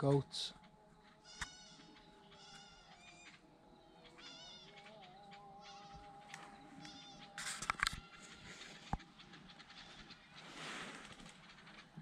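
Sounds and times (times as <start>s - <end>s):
distant chanted call to prayer: 0.0s - 10.0s.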